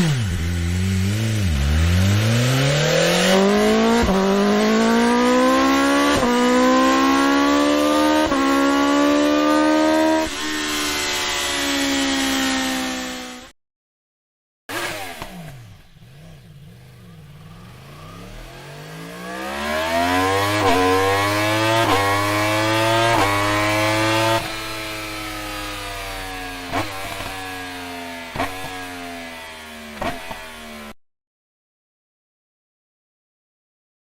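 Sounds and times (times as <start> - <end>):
motorcycle engine accelerating: 0.0 - 13.5, 14.7 - 31.0.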